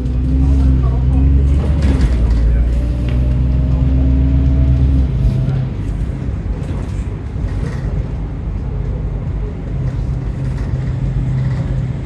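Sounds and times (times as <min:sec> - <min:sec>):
bus diesel engine rumble: 0:00.0 - 0:12.0
road noise: 0:00.0 - 0:12.0.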